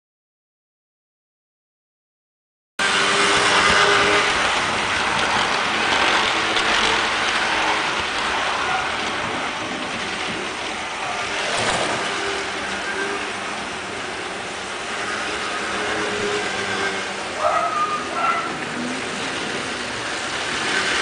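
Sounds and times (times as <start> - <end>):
model train running past: 2.8 - 21.0.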